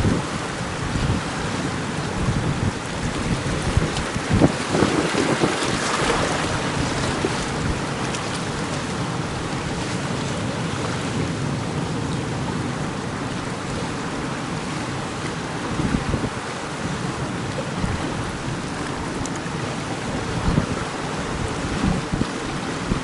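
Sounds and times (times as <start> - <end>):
surf on shore: 0.0 - 23.0
wind blowing across microphone: 0.0 - 23.0.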